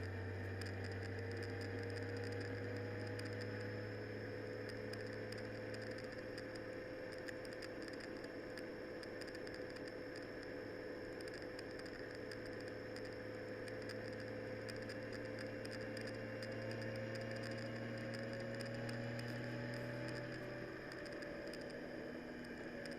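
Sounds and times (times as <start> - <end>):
vehicle engine drone: 0.0 - 22.9.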